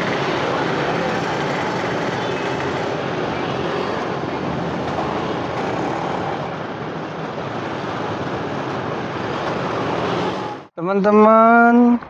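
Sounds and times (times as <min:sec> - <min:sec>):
motorbikes and cars passing: 0:00.0 - 0:10.7.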